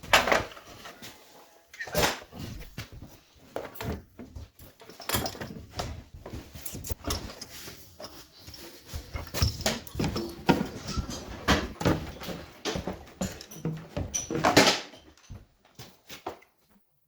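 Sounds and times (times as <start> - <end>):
tools and metal parts clattering: 0.0 - 16.5.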